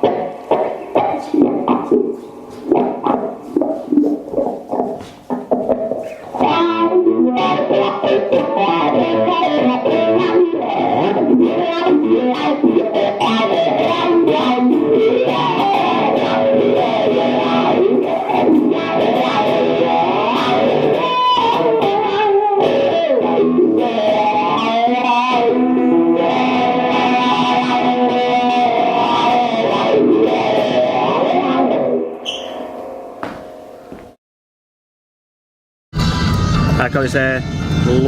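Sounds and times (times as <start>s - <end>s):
electric guitar with effects: 0.0s - 34.0s, 36.0s - 38.0s.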